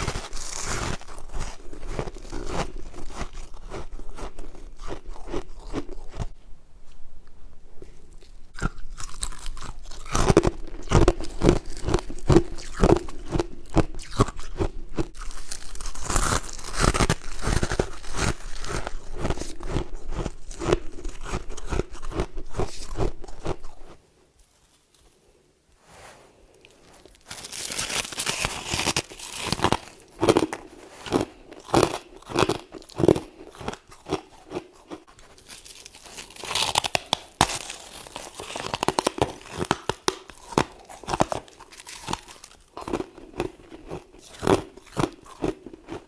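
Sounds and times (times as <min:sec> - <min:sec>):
frost crunching being chewed: 0:00.0 - 0:07.0, 0:07.8 - 0:25.1, 0:26.6 - 0:46.0.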